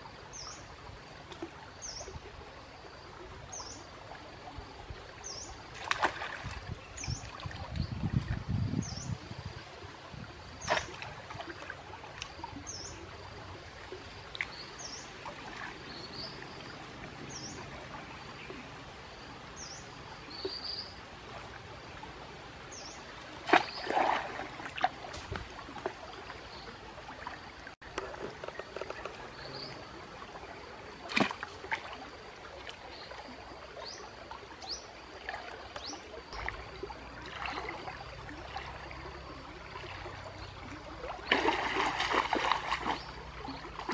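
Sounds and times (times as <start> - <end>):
stream water trickling and splashing: 0.0 - 43.9.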